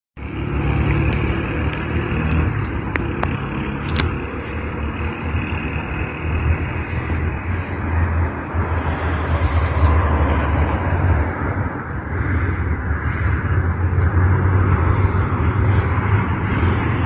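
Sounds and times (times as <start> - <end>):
car road noise: 0.2 - 17.0.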